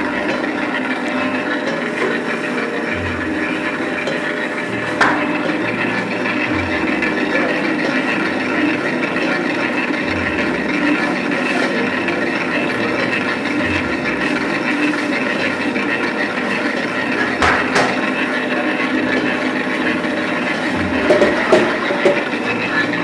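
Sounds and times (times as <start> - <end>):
knocks and clicks: 0.0 - 18.5
stand mixer motor running: 0.0 - 23.0.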